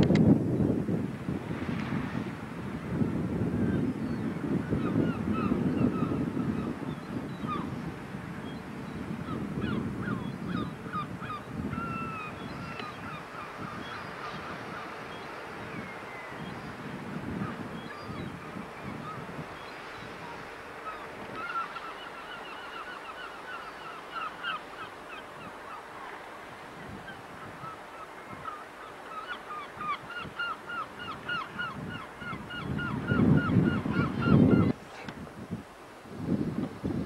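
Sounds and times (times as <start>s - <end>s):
wind buffeting microphone: 0.0s - 22.4s, 25.3s - 37.0s
seabirds calling: 3.6s - 34.8s.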